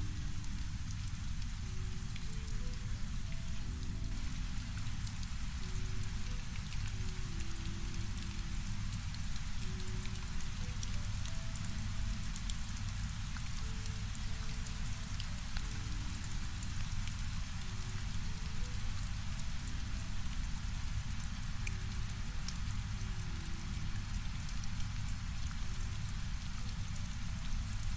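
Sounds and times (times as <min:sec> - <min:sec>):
low rumble of brown noise: 0:00.0 - 0:27.9
steady rain: 0:00.0 - 0:27.9.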